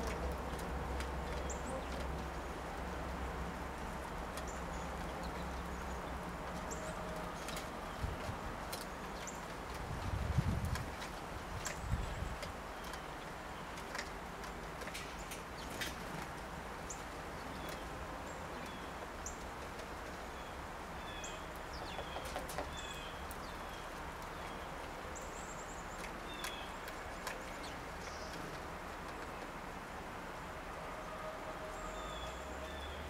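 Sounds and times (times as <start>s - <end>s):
faint outdoor hiss: 0.0s - 33.0s.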